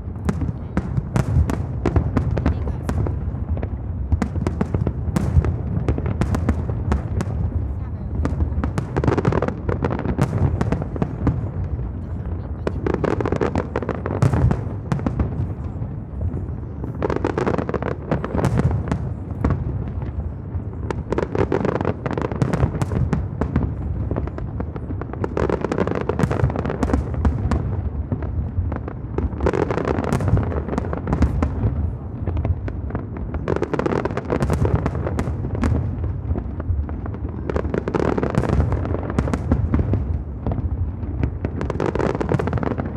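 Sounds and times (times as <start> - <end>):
fireworks booming: 0.0 - 42.9
fireworks crackling: 0.0 - 42.9.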